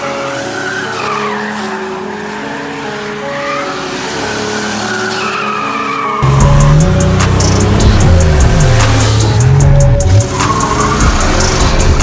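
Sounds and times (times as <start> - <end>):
car tyres squealing: 0.0 - 12.0.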